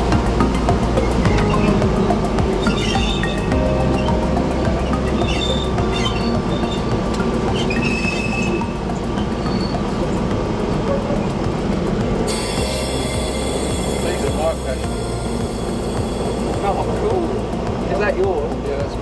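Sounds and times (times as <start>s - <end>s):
wheel flanges squealing: 0.0s - 18.9s
diesel locomotive engine running: 0.0s - 19.0s
wheels rattling over track: 0.0s - 19.0s.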